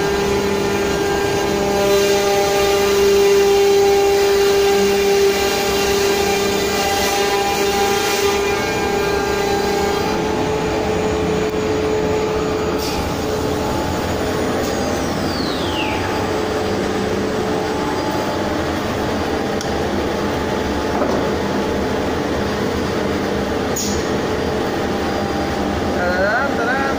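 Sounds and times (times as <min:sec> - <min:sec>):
machining center running: 0:00.0 - 0:26.9.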